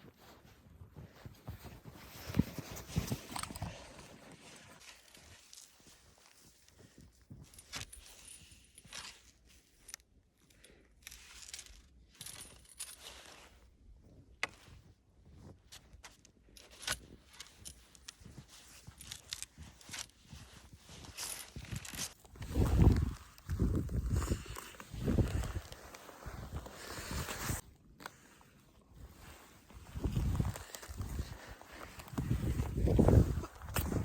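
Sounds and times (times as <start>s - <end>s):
footsteps crunching snow: 0.0s - 9.7s, 12.2s - 34.0s.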